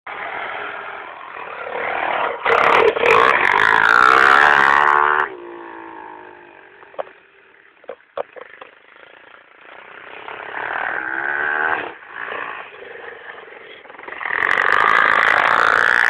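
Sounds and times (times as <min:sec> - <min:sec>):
dirt bike engine revving: 0:00.1 - 0:16.0.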